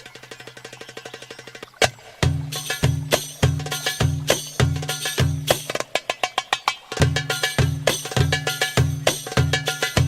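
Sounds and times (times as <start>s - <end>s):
goblet drum rhythm: 0.0s - 10.0s.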